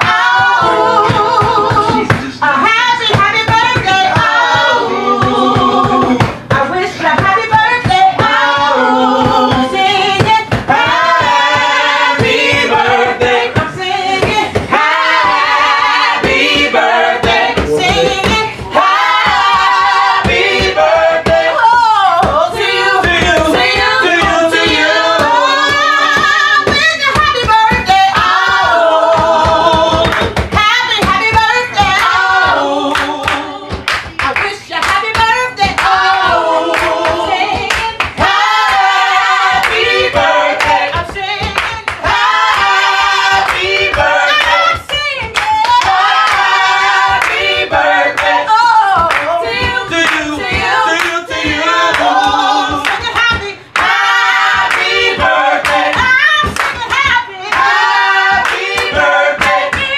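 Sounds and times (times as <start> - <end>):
steady beat: 0.0 - 34.3, 35.0 - 59.9
group singing: 0.0 - 59.9
hand claps: 0.0 - 59.9
lead voice singing: 0.0 - 59.9.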